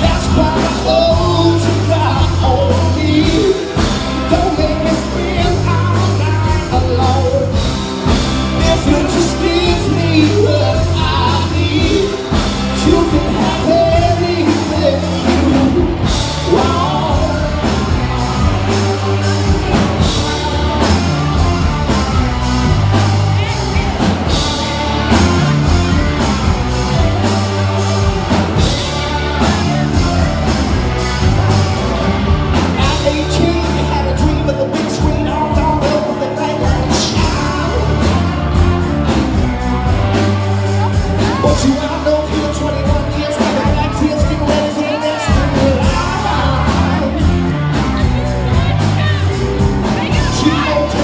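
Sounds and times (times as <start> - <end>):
lead singer: 0.0 - 51.0
rock band playing live: 0.0 - 51.0
steady drum beat: 0.0 - 51.0.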